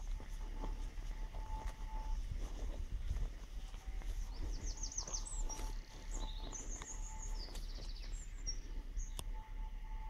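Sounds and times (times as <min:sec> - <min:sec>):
small birds singing: 0:00.0 - 0:09.9.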